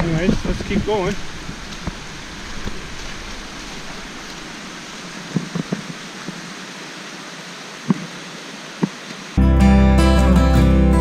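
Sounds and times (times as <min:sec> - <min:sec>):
flowing creek water: 0:00.0 - 0:09.4.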